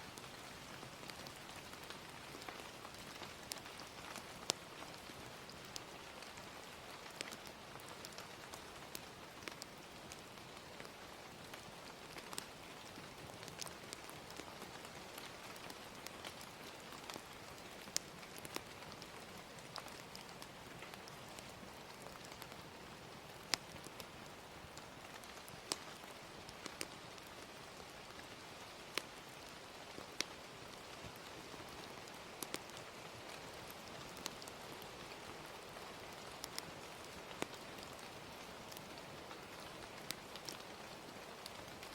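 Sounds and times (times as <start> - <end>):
gentle rain hiss: 0.0 - 41.9
wood fire crackling: 0.1 - 41.9.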